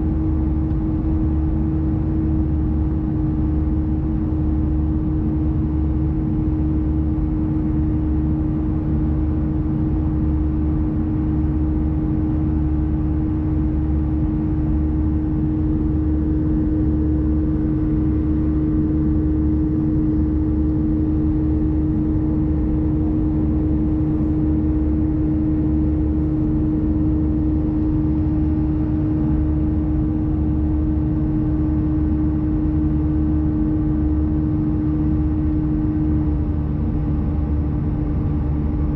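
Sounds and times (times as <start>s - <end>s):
aircraft engines and airflow rumble: 0.0s - 38.9s.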